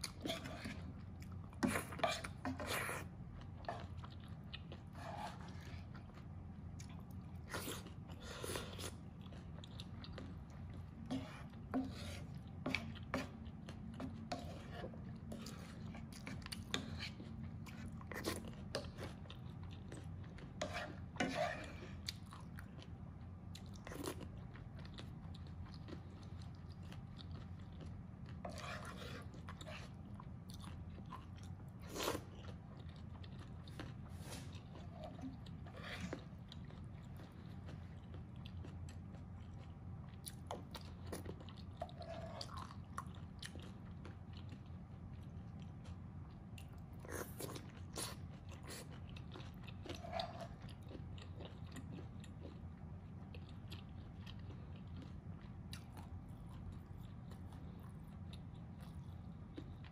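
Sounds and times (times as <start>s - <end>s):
chewing and wet smacks: 0.0s - 59.9s.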